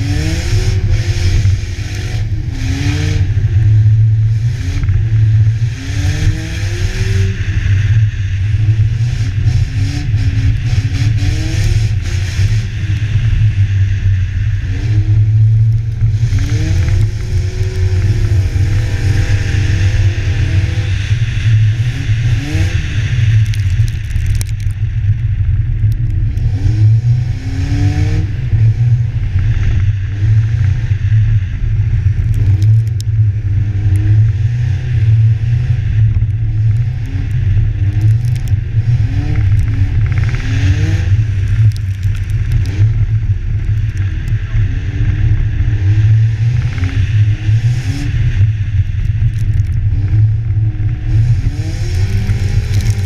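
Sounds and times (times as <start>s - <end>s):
car engine revving: 0.0s - 53.0s
wind rumble on microphone: 0.0s - 53.0s.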